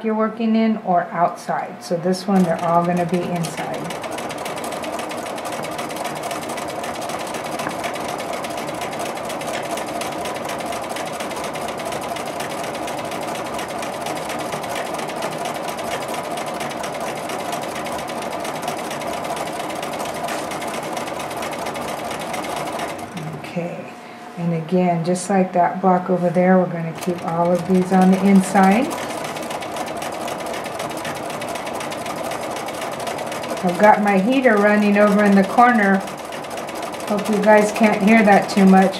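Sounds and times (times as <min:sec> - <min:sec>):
sewing machine stitching: 0:02.2 - 0:23.5, 0:26.8 - 0:38.9.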